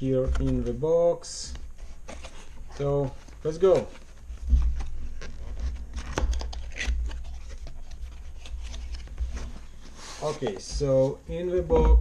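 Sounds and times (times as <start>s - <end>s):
packaging rustling and scraping: 0.2s - 11.5s.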